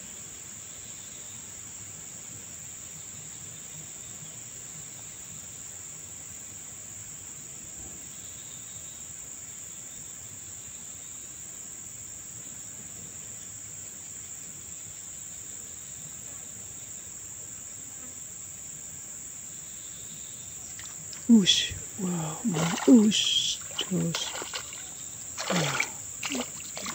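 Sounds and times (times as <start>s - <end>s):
insects chorus: 0.0s - 26.9s.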